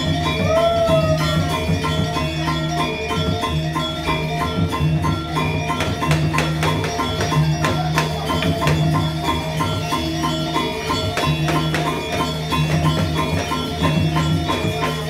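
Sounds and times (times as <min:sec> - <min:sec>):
metallophones quick repeated notes: 0:00.0 - 0:15.0.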